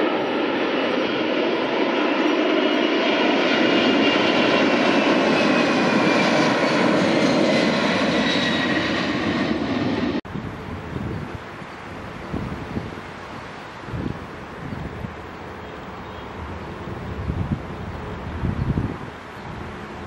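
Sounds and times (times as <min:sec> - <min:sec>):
jet engines roaring at takeoff: 0:00.0 - 0:20.0.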